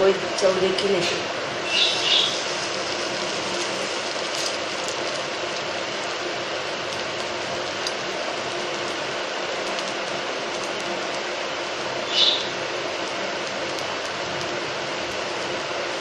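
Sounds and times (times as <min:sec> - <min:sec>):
low steady hum: 0:00.0 - 0:16.0
batter sizzling in a pan: 0:00.6 - 0:16.0.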